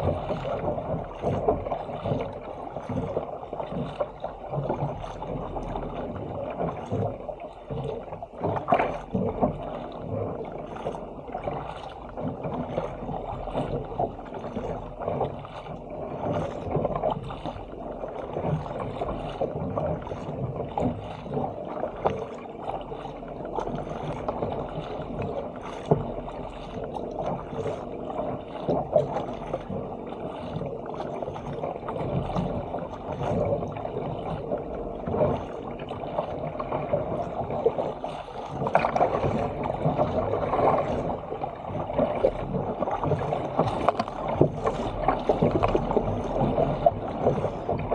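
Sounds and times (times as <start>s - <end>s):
paddle splashing into water: 0.0s - 47.9s
water rushing along hull: 0.0s - 47.9s.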